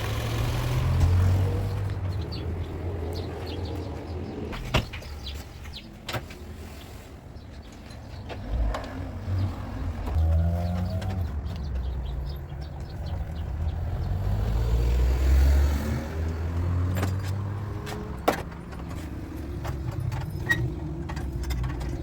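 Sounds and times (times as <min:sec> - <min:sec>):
passing motor vehicle rumble: 0:00.0 - 0:22.0.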